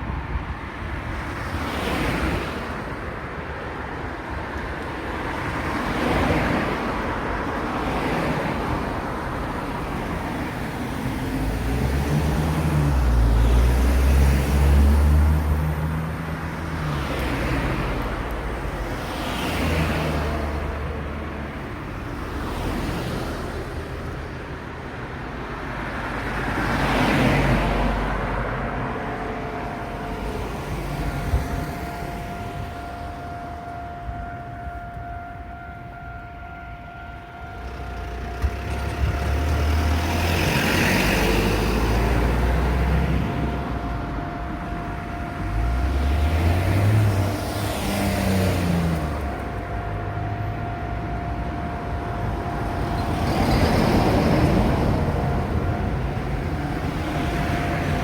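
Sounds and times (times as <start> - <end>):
cars passing: 0.0 - 58.0
heavy vehicle engine rumble: 2.9 - 58.0.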